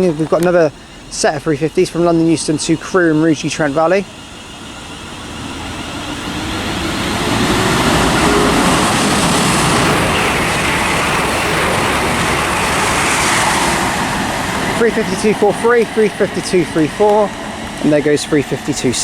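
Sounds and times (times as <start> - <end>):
faint rising tone: 0.0 - 18.8
train wheel and rail noise: 0.0 - 19.0.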